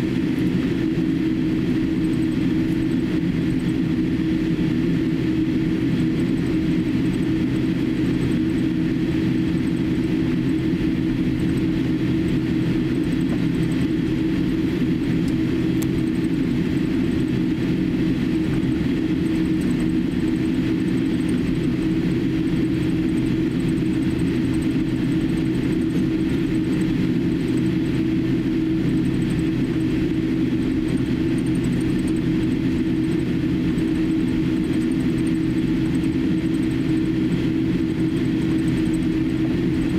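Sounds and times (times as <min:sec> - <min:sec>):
aircraft cabin hum: 0:00.0 - 0:39.9.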